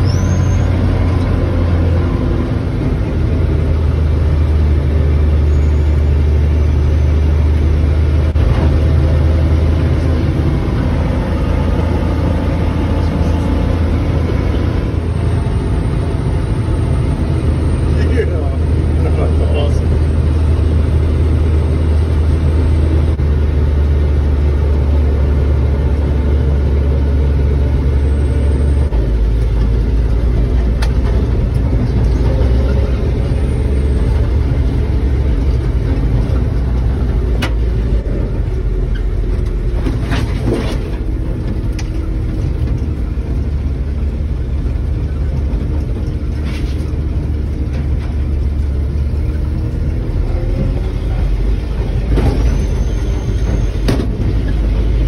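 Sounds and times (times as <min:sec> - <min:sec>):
pickup engine droning: 0:00.0 - 0:55.0
road noise: 0:00.0 - 0:55.0.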